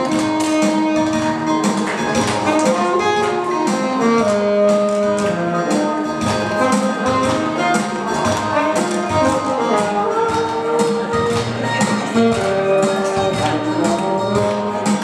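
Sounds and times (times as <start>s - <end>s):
accompanying music with beat: 0.0s - 15.0s
saxophone melody: 0.0s - 15.0s.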